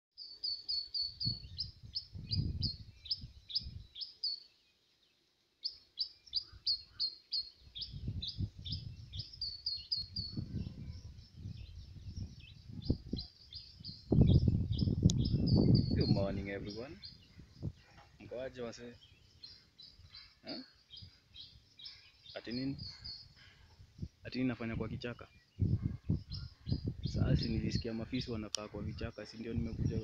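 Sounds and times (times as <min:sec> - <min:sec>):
birds chirping: 0:00.2 - 0:30.0.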